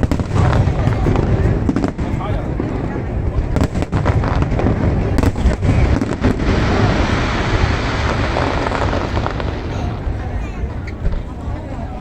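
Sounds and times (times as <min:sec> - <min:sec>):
fireworks bangs: 0:00.0 - 0:12.0
fireworks rumble and crackle: 0:00.0 - 0:12.0.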